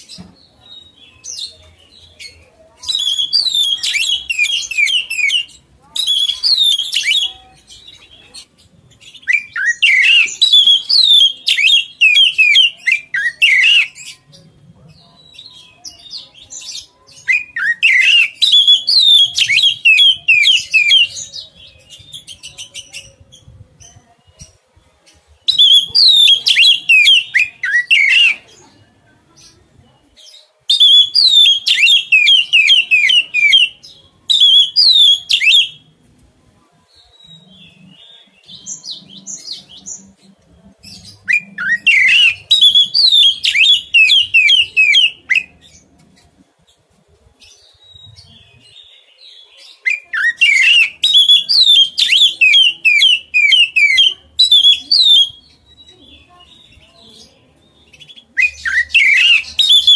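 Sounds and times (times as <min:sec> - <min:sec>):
songbird singing: 0:00.0 - 0:35.9, 0:36.9 - 0:46.4, 0:47.4 - 0:59.9.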